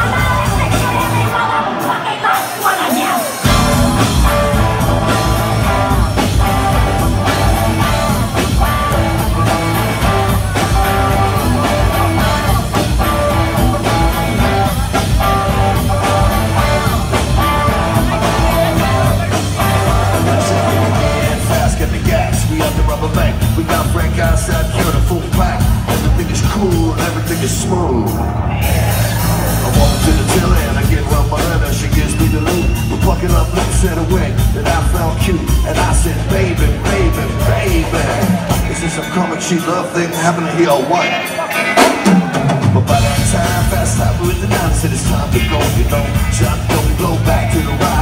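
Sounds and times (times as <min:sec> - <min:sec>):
bass guitar: 0:00.0 - 0:01.9, 0:03.4 - 0:48.0
drums: 0:00.0 - 0:48.0
electric guitar: 0:00.0 - 0:48.0.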